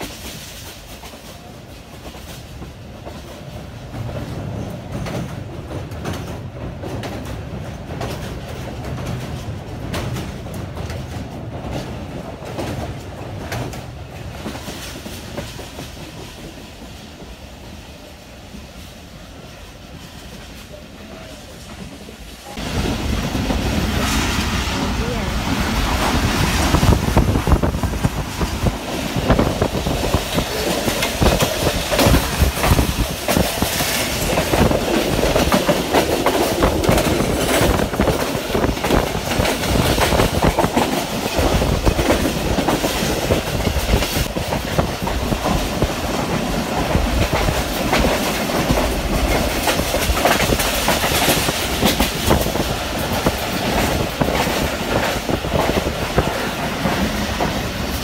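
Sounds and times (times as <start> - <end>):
steady rush of train noise: 0.0 - 58.0
train wheels clattering over rails: 0.0 - 58.0.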